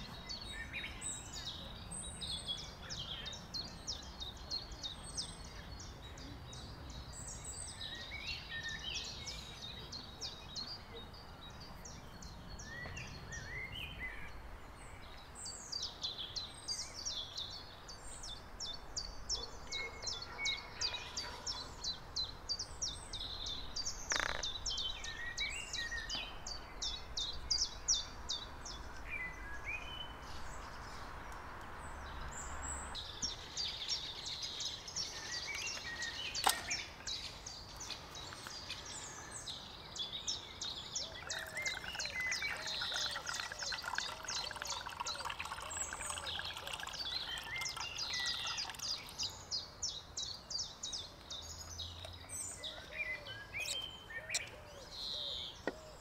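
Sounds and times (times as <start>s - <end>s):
wild birds singing: 0.0s - 56.0s.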